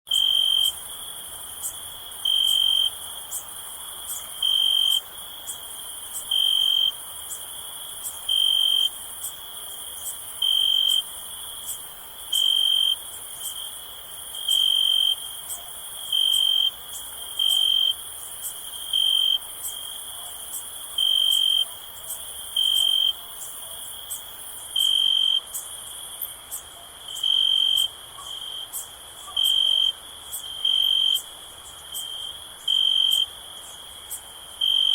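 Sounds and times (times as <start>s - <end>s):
cricket trilling: 0.1s - 34.9s
distant insect chorus: 0.1s - 34.9s.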